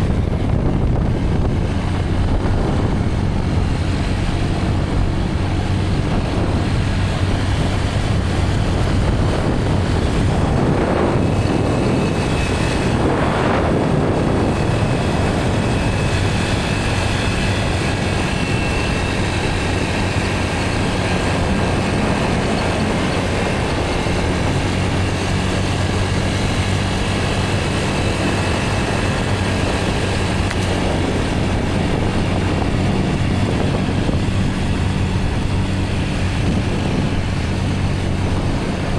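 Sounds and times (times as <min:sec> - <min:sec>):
road and wind noise: 0:00.0 - 0:38.9
vehicle engine running: 0:00.0 - 0:38.9.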